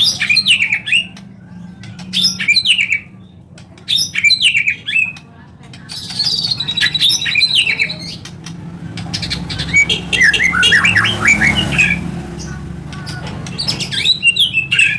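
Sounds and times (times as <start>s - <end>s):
songbird whistling and chattering: 0.0s - 14.9s.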